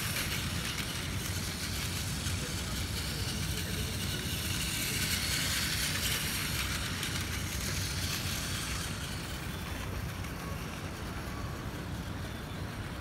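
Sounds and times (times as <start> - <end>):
distant traffic rumble: 0.0 - 13.0
high hiss: 0.0 - 13.0.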